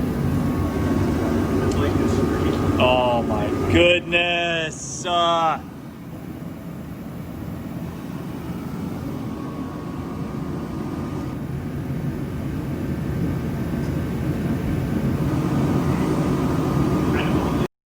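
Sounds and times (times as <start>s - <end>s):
vehicle engine rumbling: 0.0s - 17.7s.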